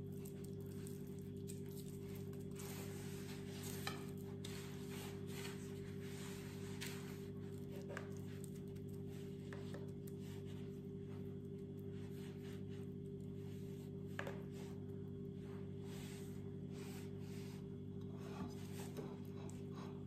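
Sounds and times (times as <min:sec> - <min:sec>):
hands rubbing in breadcrumbs: 0:00.0 - 0:20.0
steady low hum: 0:00.0 - 0:20.0.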